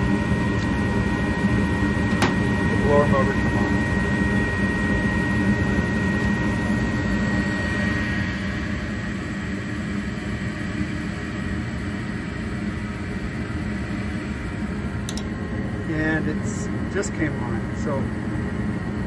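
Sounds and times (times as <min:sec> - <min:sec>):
inducer motor hum: 0:00.0 - 0:19.0
thin steady whine: 0:00.0 - 0:19.0.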